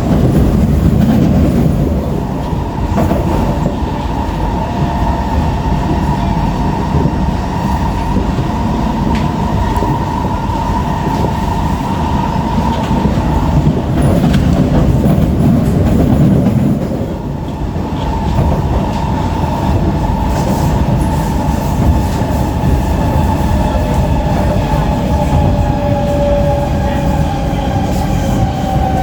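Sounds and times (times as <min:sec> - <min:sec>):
wheel and track rumble: 0:00.0 - 0:29.0.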